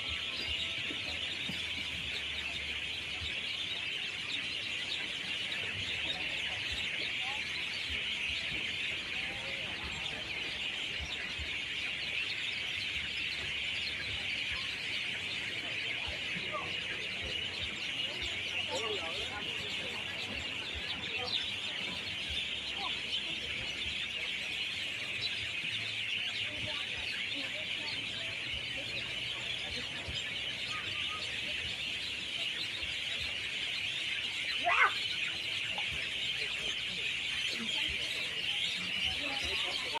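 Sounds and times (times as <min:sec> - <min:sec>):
many birds twittering: 0:00.0 - 0:40.0.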